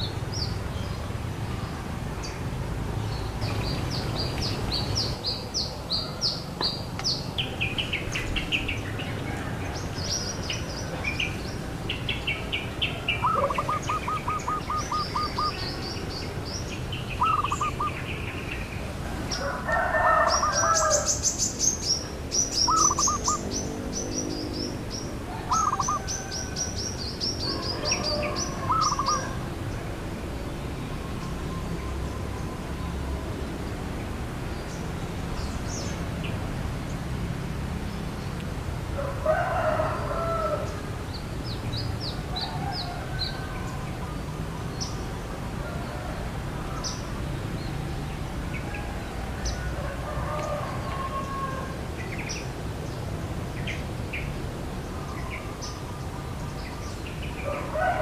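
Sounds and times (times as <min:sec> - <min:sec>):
songbirds chirping and singing: 0:00.0 - 0:37.2, 0:37.8 - 0:58.0.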